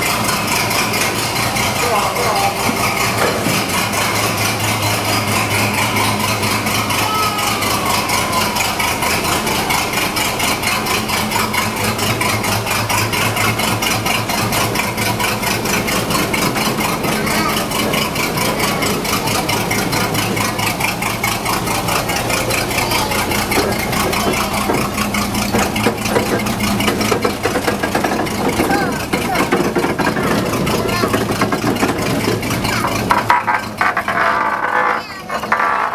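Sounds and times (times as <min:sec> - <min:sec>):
small locomotive engine running: 0:00.0 - 0:35.9.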